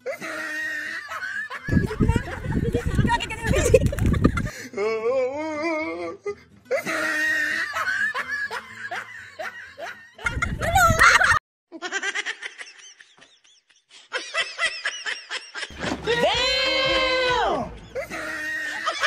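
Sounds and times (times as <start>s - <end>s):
people laughing hard: 0.0s - 4.7s, 6.7s - 19.0s.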